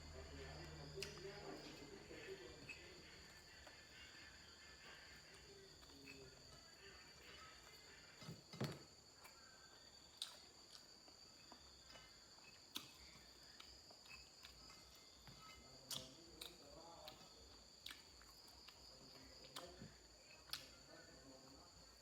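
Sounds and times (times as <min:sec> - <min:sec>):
crickets chirring: 0:00.0 - 0:22.0
quiet chewing: 0:00.4 - 0:08.4, 0:09.1 - 0:22.0.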